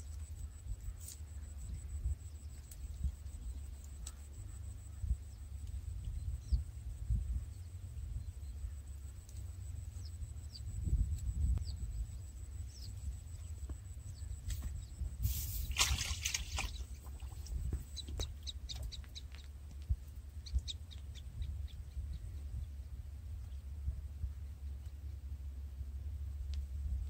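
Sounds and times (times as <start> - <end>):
small birds chirping: 0.0 - 25.3
wind rumble on microphone: 0.0 - 27.0.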